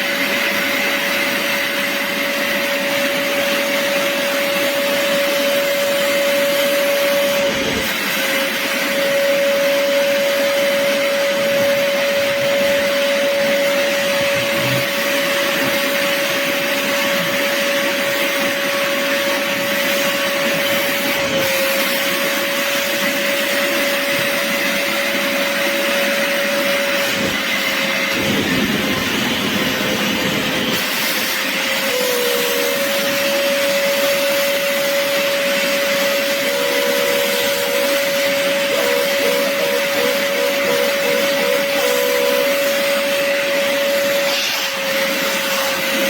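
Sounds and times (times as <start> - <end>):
suction motor whine: 0.0 - 46.0.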